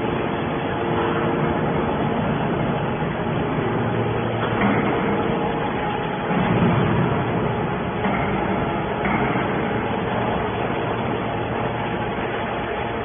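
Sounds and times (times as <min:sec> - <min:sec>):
hydraulic baler drone: 0:00.0 - 0:13.0.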